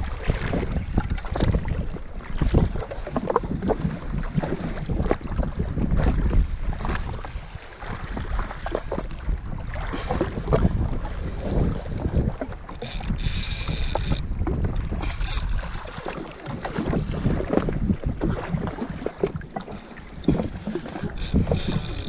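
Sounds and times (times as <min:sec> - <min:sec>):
water splashing against a hull: 0:00.0 - 0:22.0
wind buffeting the microphone: 0:00.0 - 0:22.0.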